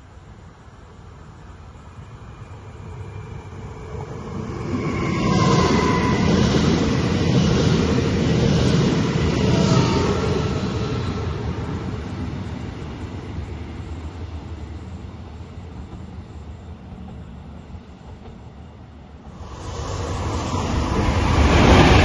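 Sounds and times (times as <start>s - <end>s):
train wheels rumbling on rails: 1.4s - 22.0s.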